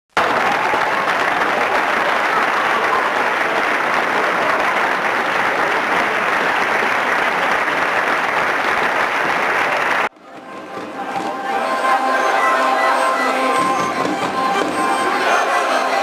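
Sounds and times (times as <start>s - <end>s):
large crowd applauding: 0.1s - 16.0s.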